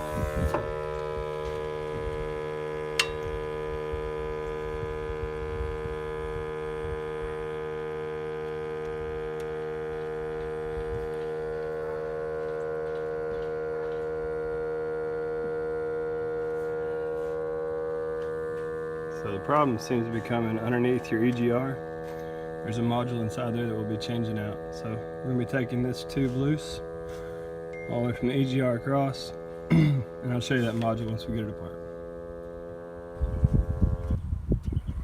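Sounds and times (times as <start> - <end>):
electric humming whir: 0.0 - 35.0.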